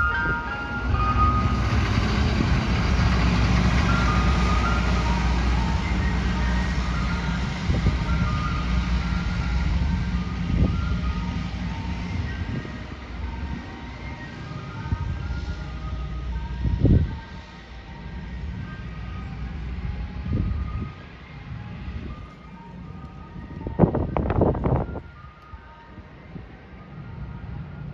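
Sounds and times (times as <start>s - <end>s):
truck engine running: 0.0s - 25.3s.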